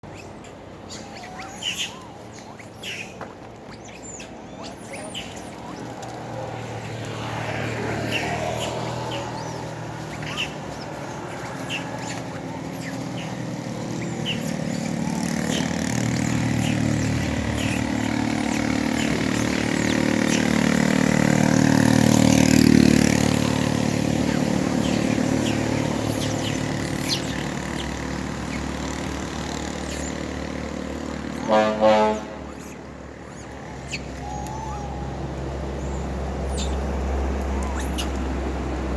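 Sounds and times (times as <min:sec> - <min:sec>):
passing motor vehicle engine: 0:00.0 - 0:38.9.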